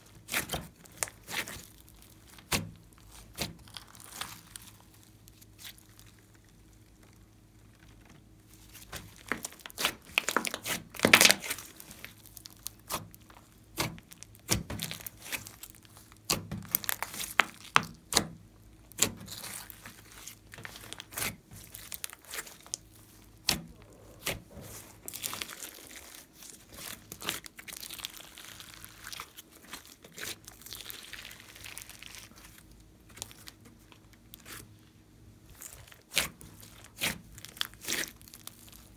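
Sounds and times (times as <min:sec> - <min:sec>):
slime crackling and popping: 0:00.0 - 0:34.8, 0:35.4 - 0:38.9.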